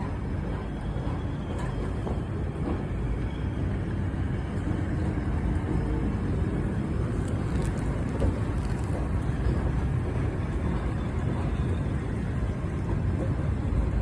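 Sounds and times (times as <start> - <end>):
train rumbling into platform: 0.0 - 14.0.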